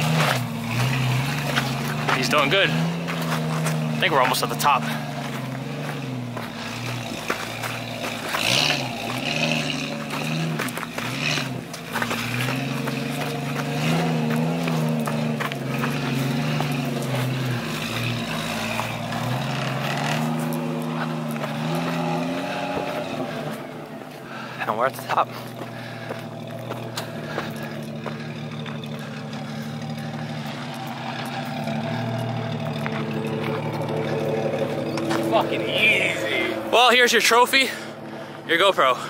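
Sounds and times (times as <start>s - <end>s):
tyres crunching over rock: 0.0s - 37.2s
car engine revving: 0.0s - 39.0s.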